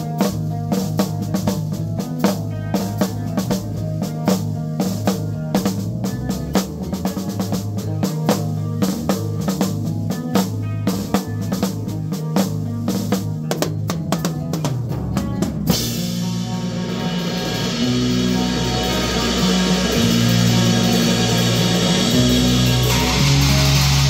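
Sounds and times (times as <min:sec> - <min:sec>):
guitars holding low notes: 0:00.0 - 0:24.0
rock drum kit beat: 0:00.0 - 0:24.0.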